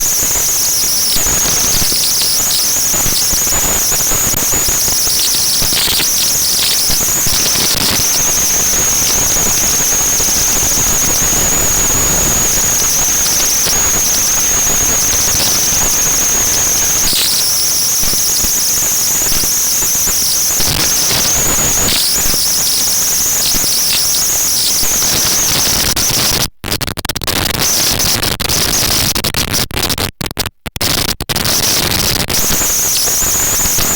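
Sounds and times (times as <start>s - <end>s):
steady high whine: 0.0s - 26.0s, 32.4s - 33.9s.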